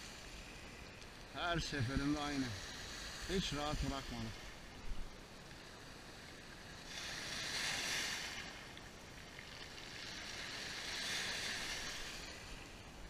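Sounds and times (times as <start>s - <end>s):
waves washing on pebble beach: 0.0s - 13.0s.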